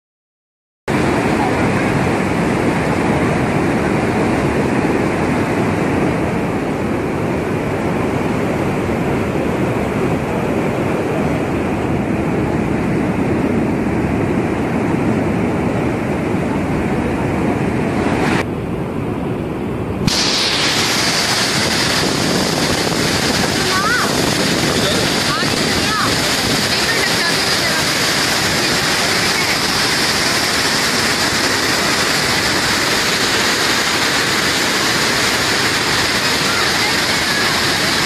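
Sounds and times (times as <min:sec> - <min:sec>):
water rushing through sluice gates: 0:00.9 - 0:18.4, 0:19.8 - 0:38.0.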